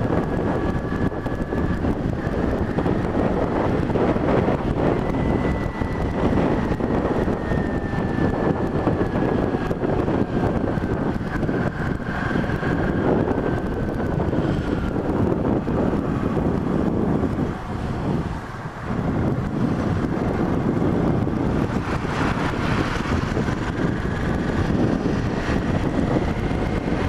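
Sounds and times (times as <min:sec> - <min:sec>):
motorcycle engine: 0:00.0 - 0:27.0
road noise: 0:00.0 - 0:27.0
wind buffeting microphone: 0:00.0 - 0:27.0.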